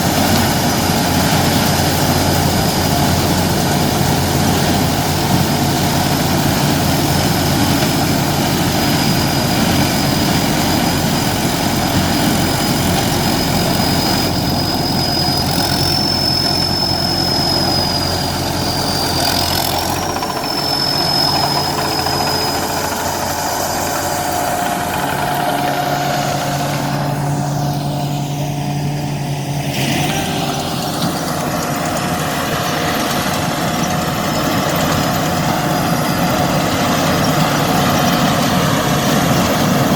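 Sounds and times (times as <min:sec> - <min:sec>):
thin high whine: 0:00.0 - 0:39.6
corn sheller engine running: 0:00.0 - 0:39.9.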